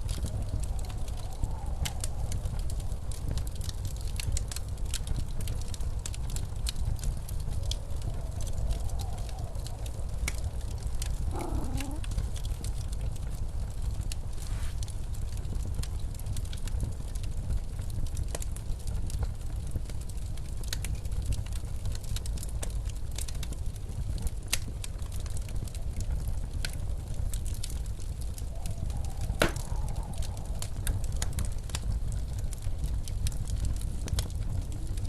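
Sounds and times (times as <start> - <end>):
blizzard wind rumble: 0.0 - 35.0
wood fire crackling and popping: 0.0 - 35.0.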